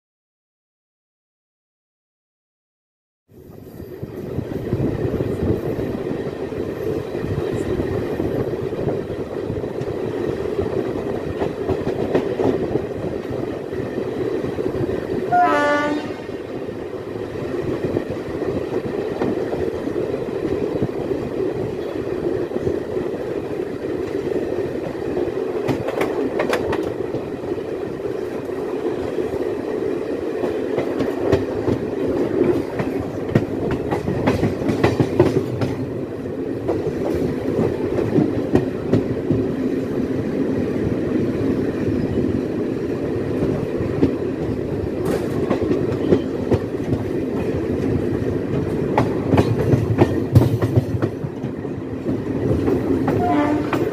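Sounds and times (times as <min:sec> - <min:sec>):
train wheels rumbling on rails: 0:03.3 - 0:53.9.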